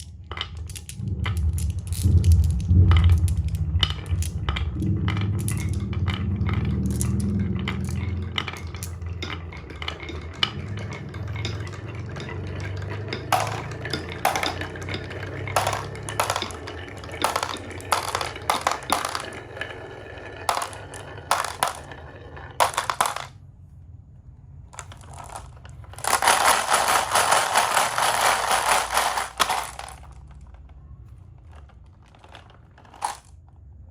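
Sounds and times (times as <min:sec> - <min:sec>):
marbles rolling and clicking on track: 0:00.0 - 0:23.5, 0:24.7 - 0:33.9.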